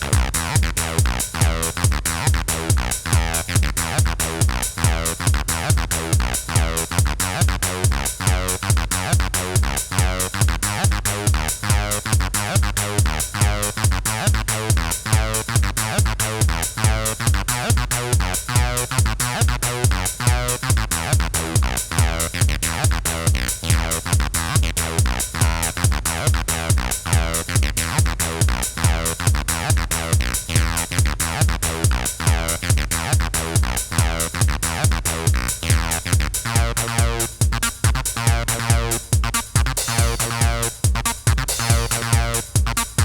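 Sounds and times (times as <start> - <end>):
drum machine beat: 0.0 - 43.0
sequenced synth bass line: 0.0 - 43.0.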